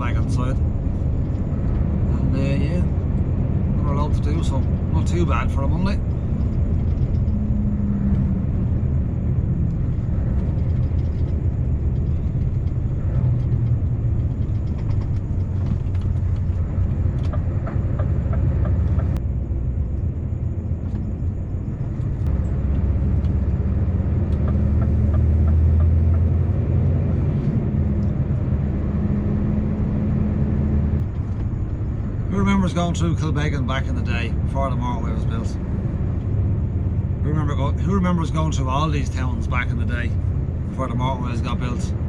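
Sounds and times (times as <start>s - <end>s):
truck engine low drone: 0.0s - 42.0s.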